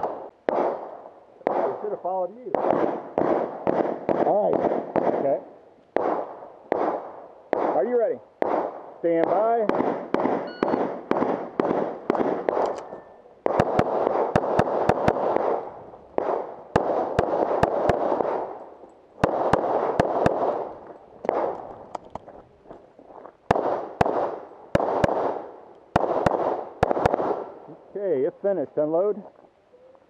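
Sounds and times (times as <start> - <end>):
rapid pistol shots echoing: 0.0 - 21.7, 23.5 - 27.7.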